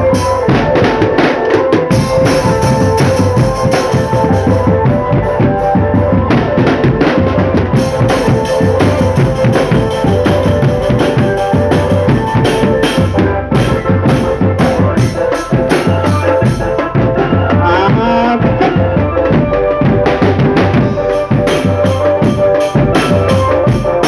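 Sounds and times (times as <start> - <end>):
snare and bass drum beats: 0.0 - 24.0
sustained melody line: 0.0 - 24.0.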